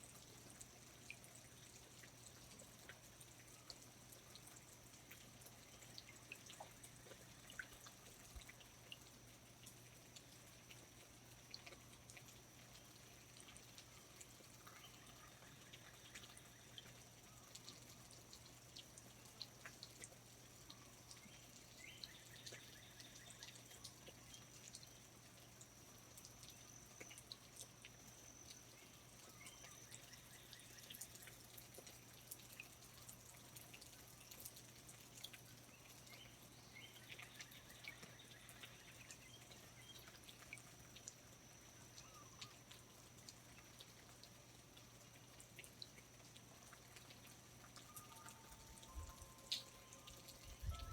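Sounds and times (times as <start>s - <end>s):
water drips: 0.0s - 50.9s.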